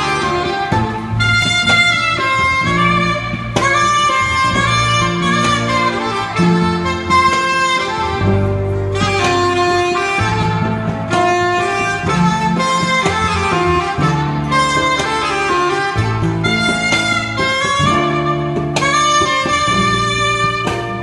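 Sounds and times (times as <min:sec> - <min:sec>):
electric bass: 0:00.0 - 0:21.0
guitar: 0:00.0 - 0:21.0
saxophone melody: 0:00.0 - 0:21.0.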